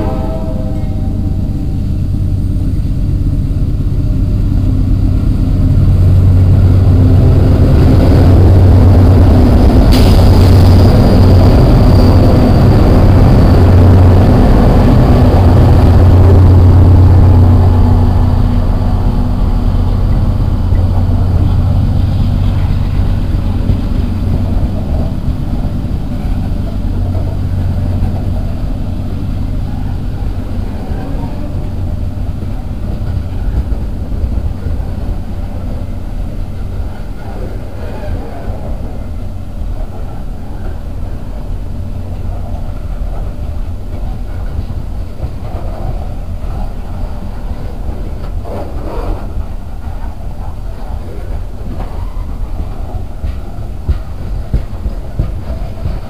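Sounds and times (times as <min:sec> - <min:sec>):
diesel locomotive engine drone: 0:00.0 - 0:56.0
freight car wheels rumbling on rails: 0:00.0 - 0:56.0.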